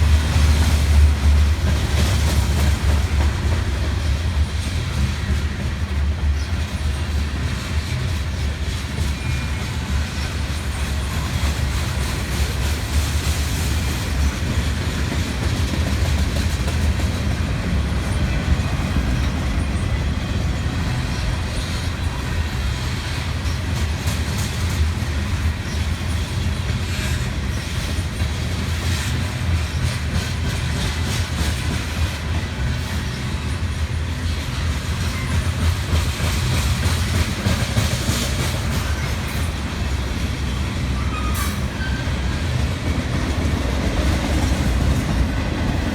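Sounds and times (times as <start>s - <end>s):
freight train rumbling: 0.0s - 45.9s.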